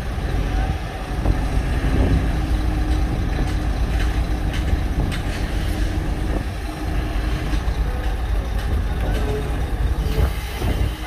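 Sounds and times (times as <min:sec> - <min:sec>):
excavator diesel engine under load: 0:00.0 - 0:11.0.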